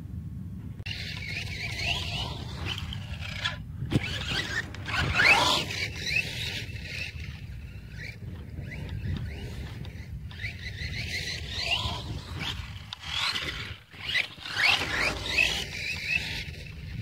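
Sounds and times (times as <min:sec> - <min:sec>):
electric motor whining: 0:00.9 - 0:17.0.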